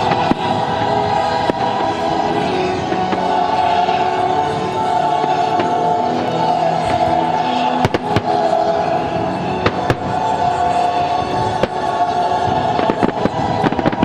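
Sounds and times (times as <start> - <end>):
fireworks bursting with bangs: 0.0 - 14.0
music: 0.0 - 14.0.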